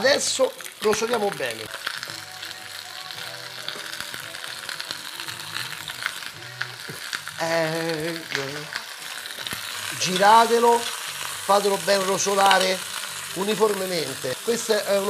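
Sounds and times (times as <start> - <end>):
chicken sizzling in oil: 0.0 - 15.0
man singing: 1.7 - 9.0, 9.9 - 15.0.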